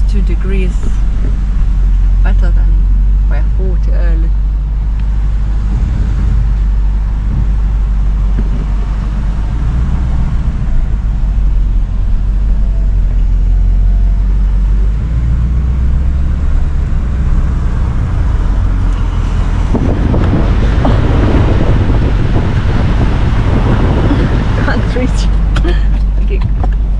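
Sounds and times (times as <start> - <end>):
car engine and road drone: 0.0 - 26.9
rush of noise: 0.5 - 13.8, 15.5 - 25.9.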